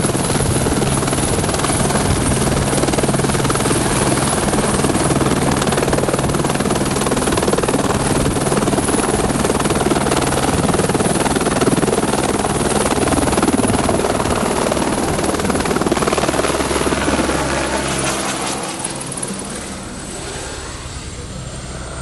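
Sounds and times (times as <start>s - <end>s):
helicopter rotor beating: 0.0s - 22.0s.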